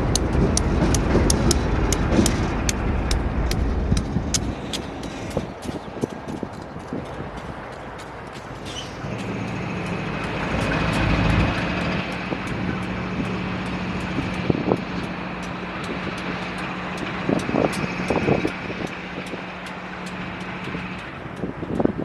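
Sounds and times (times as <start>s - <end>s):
faint regular ticking: 0.0s - 22.0s
large engine running: 0.0s - 22.0s.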